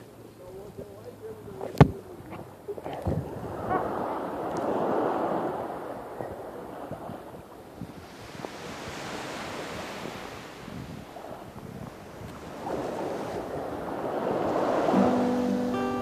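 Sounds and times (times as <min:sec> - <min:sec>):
small waves sloshing: 0:00.8 - 0:16.0.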